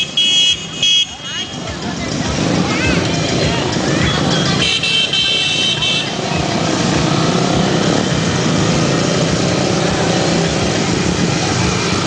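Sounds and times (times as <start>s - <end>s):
motorcycle engines passing: 0.0s - 12.0s.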